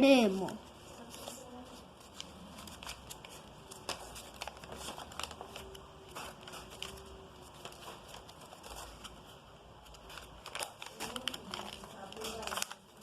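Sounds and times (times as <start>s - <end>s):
paper rustling and crinkling: 0.1s - 13.0s.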